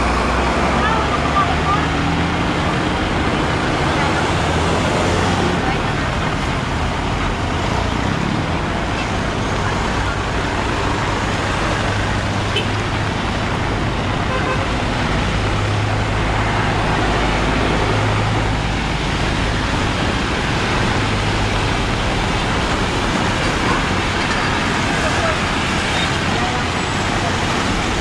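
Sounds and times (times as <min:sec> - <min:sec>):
motor traffic hum: 0:00.0 - 0:28.0
steady rain: 0:00.0 - 0:28.0.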